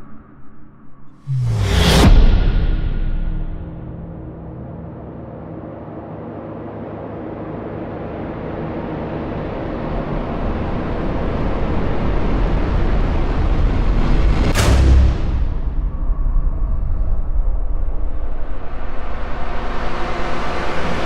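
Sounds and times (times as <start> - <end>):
cinematic whoosh: 1.2 - 21.0.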